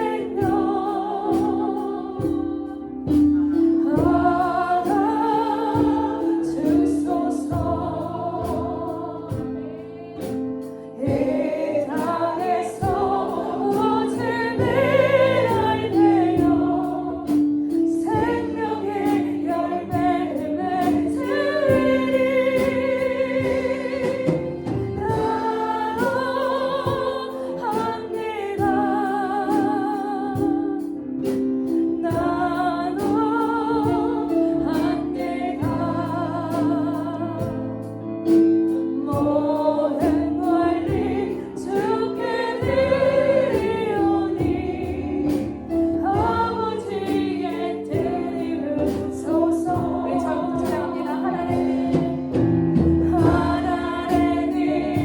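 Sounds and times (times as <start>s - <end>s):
choir singing worship song: 0.0s - 55.0s
instrumental accompaniment: 0.0s - 55.0s.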